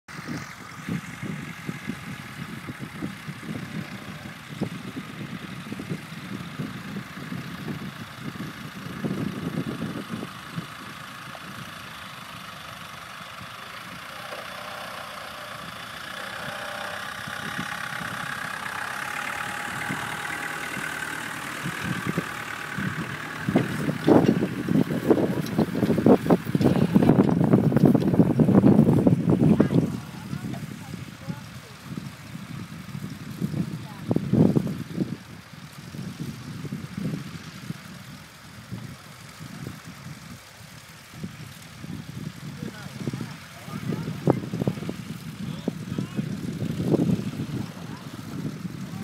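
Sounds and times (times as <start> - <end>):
engine rumbling: 0.0 - 49.0.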